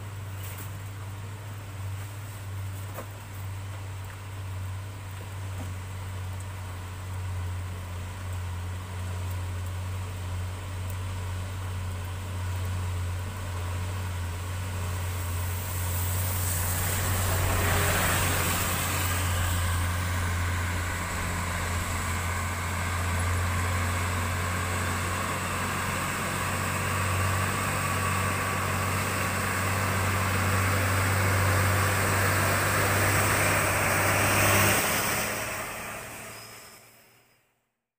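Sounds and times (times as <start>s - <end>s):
tyres hissing on wet road: 0.0s - 37.4s
truck diesel engine droning: 0.0s - 37.5s.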